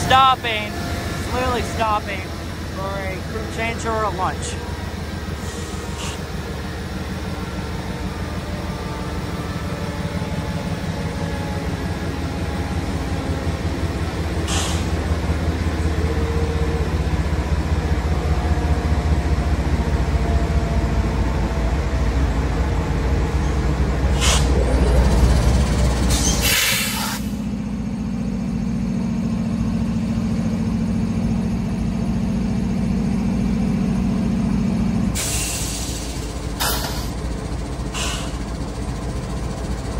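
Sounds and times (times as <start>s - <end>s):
locomotive engine idling: 0.0s - 39.9s.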